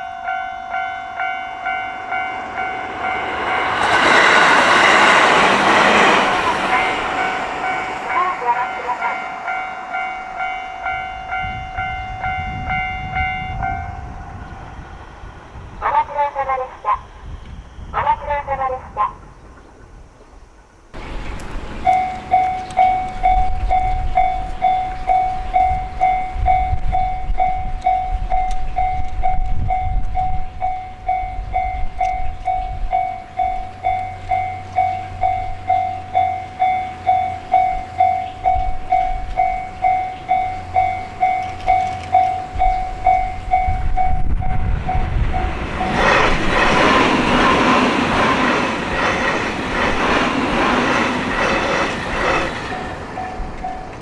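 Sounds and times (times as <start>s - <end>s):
railroad crossing bell ringing: 0.0s - 17.3s, 21.0s - 54.0s
train passing with rushing rumble: 0.0s - 54.0s.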